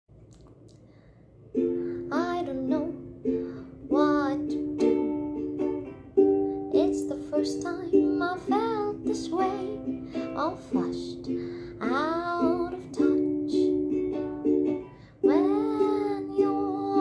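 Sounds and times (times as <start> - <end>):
ukulele strumming chords: 1.4 - 17.0.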